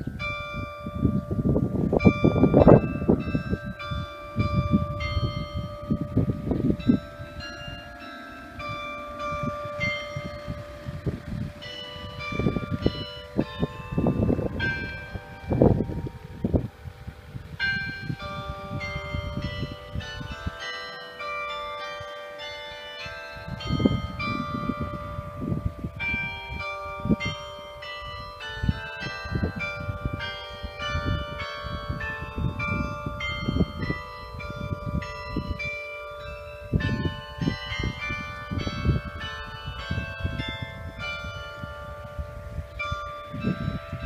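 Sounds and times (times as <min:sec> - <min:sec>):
church bells ringing: 0:00.0 - 0:44.0
wind buffeting microphone: 0:00.0 - 0:44.0.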